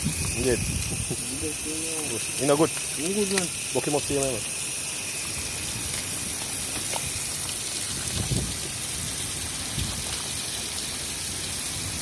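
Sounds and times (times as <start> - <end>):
hose spray on shells and concrete: 0.0 - 12.0.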